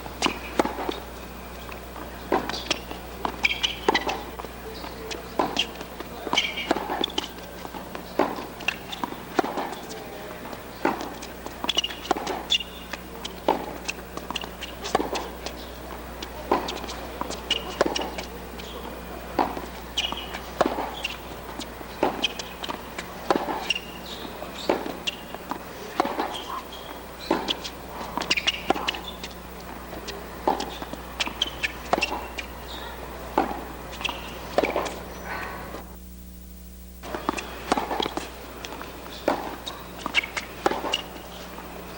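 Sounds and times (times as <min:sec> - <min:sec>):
footsteps on court: 0:00.0 - 0:36.0, 0:37.0 - 0:41.9
low hum: 0:00.0 - 0:41.9
tennis racket strikes and bounces: 0:01.6 - 0:07.4, 0:10.6 - 0:35.1, 0:37.0 - 0:41.9.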